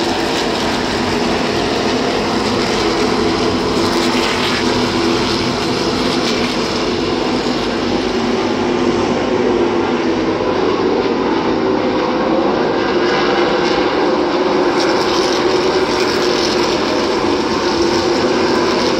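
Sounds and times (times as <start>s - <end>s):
race car engines droning: 0.0s - 18.9s.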